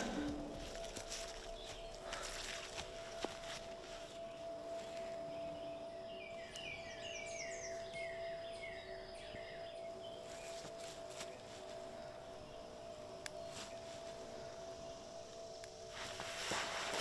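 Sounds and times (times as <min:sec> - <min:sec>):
low drone of held tones: 0:00.0 - 0:17.0.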